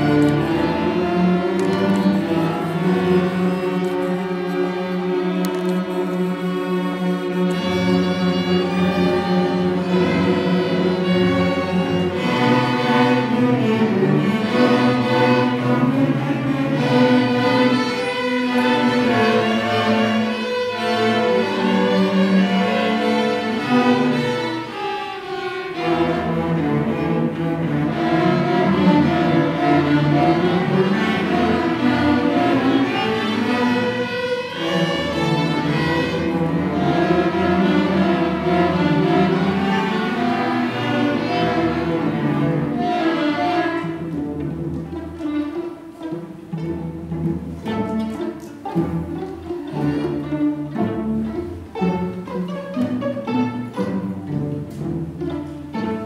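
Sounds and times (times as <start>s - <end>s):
string orchestra playing: 0.0s - 56.0s.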